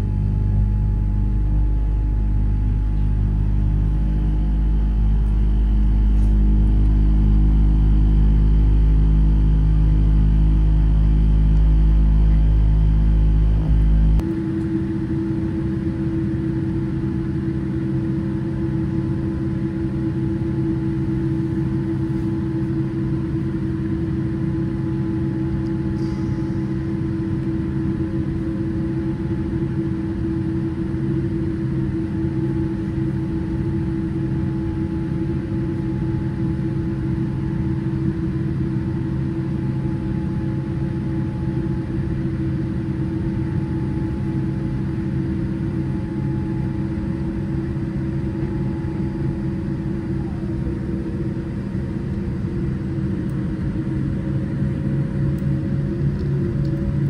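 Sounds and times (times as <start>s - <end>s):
aircraft cabin engine hum: 0.0s - 57.0s.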